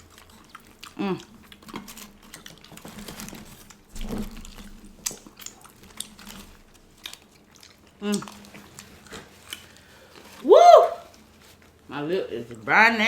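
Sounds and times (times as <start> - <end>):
chewing and crunching fried chicken: 0.0 - 13.0.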